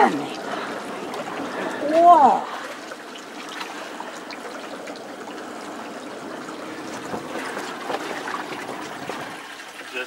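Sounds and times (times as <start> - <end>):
water sloshing beside a boat hull: 0.0 - 10.0.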